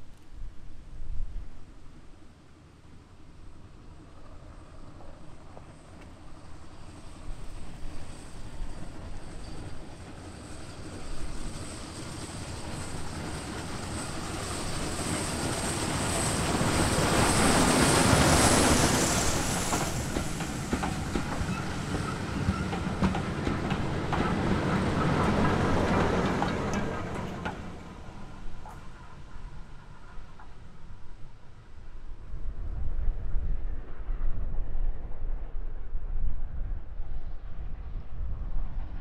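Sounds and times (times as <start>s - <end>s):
train passing by: 1.9s - 39.0s.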